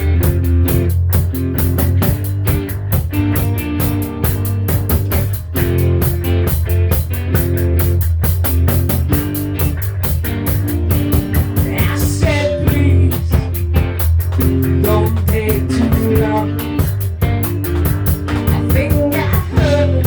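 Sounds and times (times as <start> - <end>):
rock music: 0.0 - 20.0.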